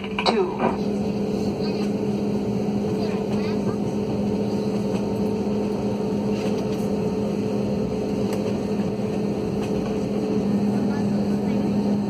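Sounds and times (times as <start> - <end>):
jet airliner cabin hum: 0.0 - 12.0.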